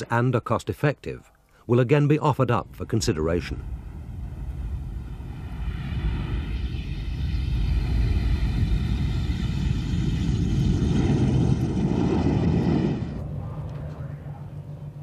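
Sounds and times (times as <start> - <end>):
jet aircraft passing: 2.5 - 15.0.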